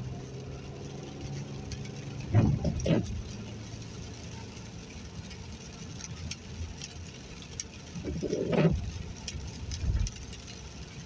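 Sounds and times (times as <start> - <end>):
engine and tyre rumble: 0.0 - 11.0
light ticks: 0.8 - 11.0.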